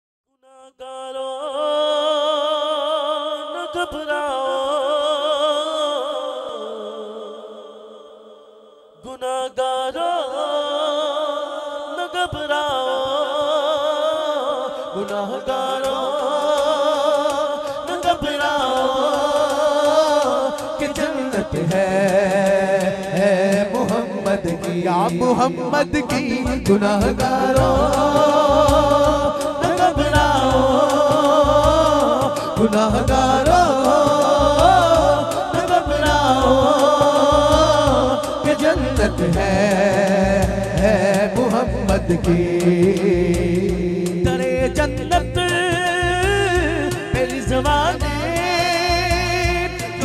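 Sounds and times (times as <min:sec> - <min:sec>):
man singing melismatic phrases: 0:09.0 - 0:50.0
second male singer: 0:09.0 - 0:50.0.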